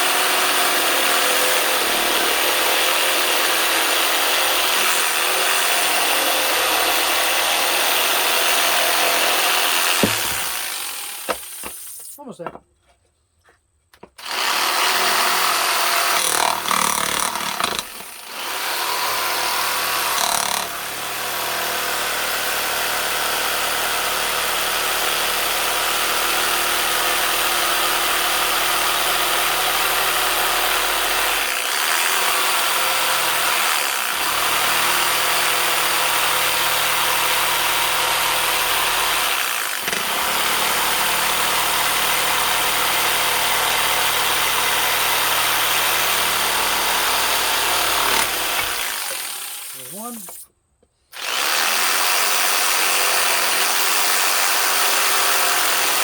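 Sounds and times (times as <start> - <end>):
power tool running on wood: 0.0 - 12.2, 14.2 - 50.4, 51.2 - 56.0.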